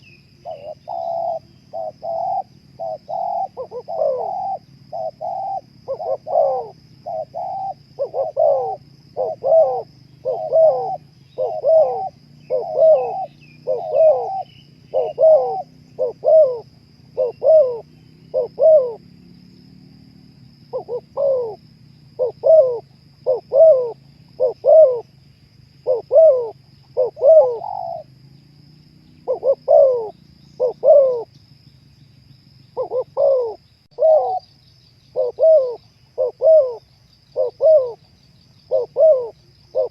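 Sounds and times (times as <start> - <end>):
dove cooing: 0.0 - 19.1, 20.7 - 25.1, 25.8 - 28.2, 29.1 - 31.4, 32.8 - 34.5, 35.1 - 39.9.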